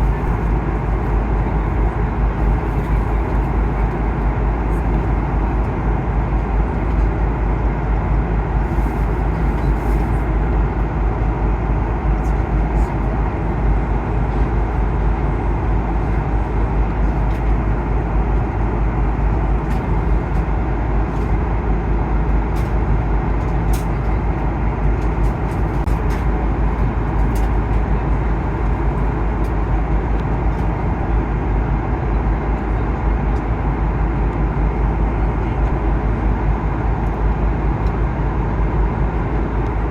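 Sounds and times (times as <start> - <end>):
aircraft engine and airflow noise: 0.0 - 39.9.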